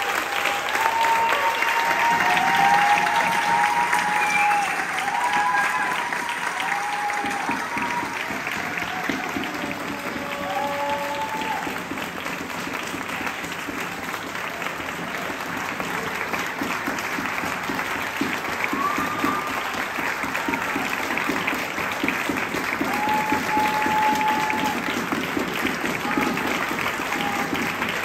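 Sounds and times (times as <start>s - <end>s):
audience applause: 0.0s - 28.0s.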